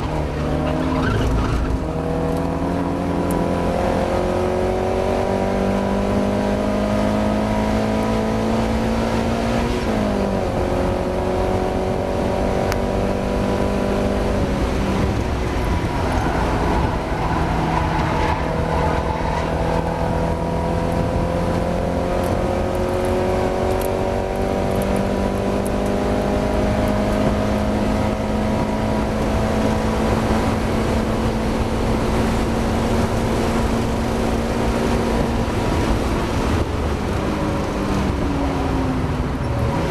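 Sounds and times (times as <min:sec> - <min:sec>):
race car engine pulling hard: 0:00.0 - 0:39.9
road and wind noise: 0:00.0 - 0:39.9.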